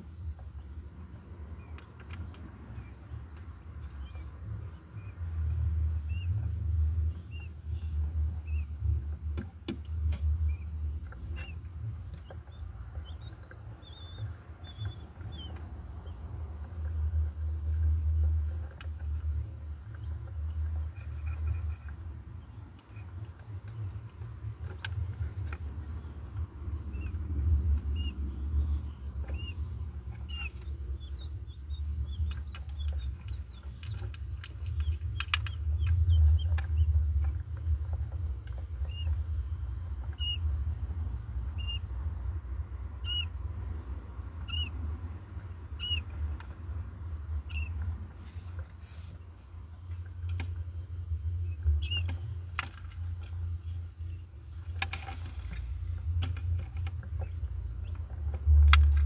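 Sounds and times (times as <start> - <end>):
quail chicks peeping: 0.0 - 59.0.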